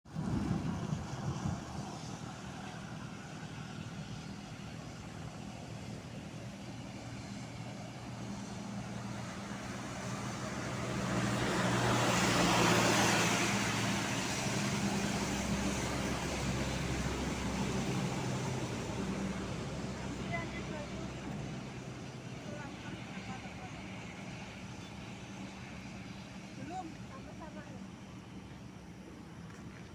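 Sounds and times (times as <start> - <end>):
traffic road noise: 0.1 - 29.9
vehicle engine humming: 0.1 - 29.9.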